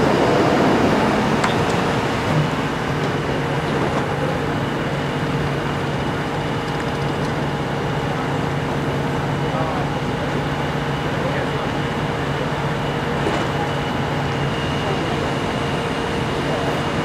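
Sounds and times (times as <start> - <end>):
large engine idling: 0.0 - 17.0.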